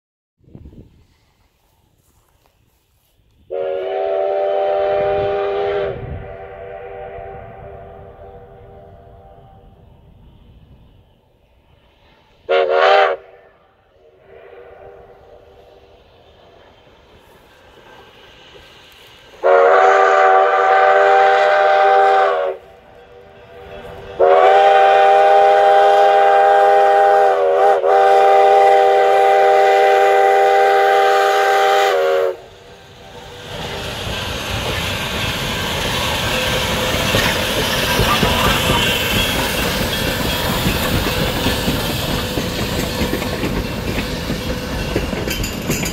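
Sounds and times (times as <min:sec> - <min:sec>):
locomotive steam hiss and exhaust: 0:00.4 - 0:45.9
steam locomotive chime whistle: 0:03.5 - 0:09.9, 0:12.2 - 0:16.8, 0:19.4 - 0:33.6, 0:34.2 - 0:45.9.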